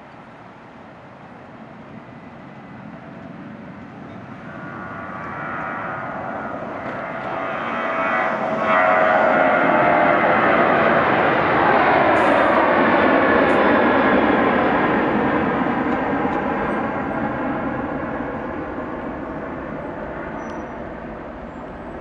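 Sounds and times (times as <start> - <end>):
jet airliner engines at takeoff: 0.0 - 22.0.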